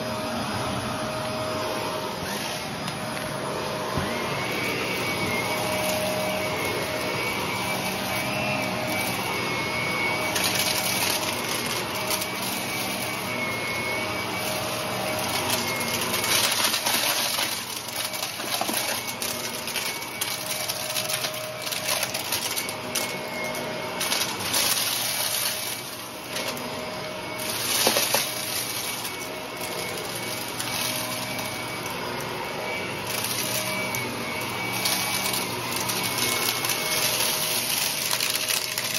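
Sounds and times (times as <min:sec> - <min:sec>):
vacuum cleaner motor whine: 0:00.0 - 0:38.9
debris crunching in vacuum: 0:02.2 - 0:38.9.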